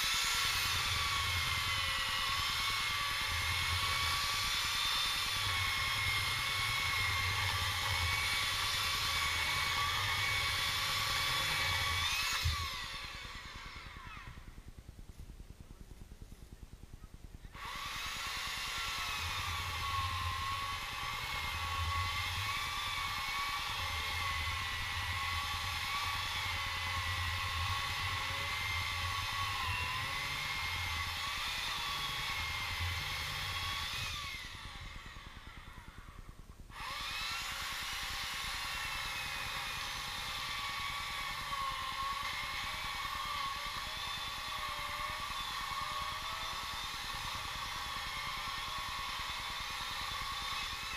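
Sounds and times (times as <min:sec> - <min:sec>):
motor whining: 0:00.0 - 0:14.8, 0:17.5 - 0:50.9.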